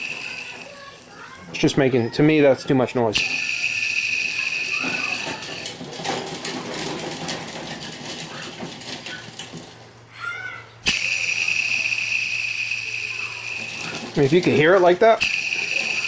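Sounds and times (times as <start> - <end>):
bearing whining and grinding: 0.0 - 2.0, 3.2 - 16.0.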